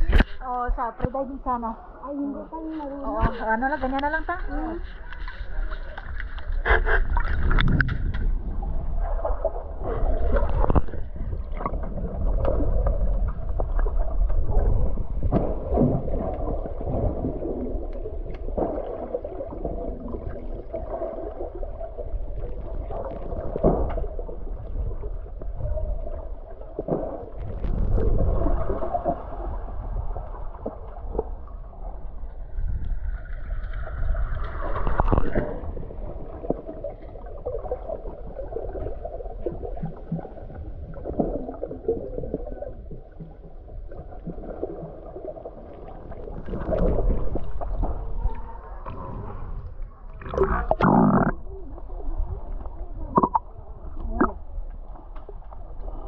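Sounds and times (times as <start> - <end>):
underwater rumble of moving water: 0.0 - 56.0
water gurgles: 0.0 - 56.0.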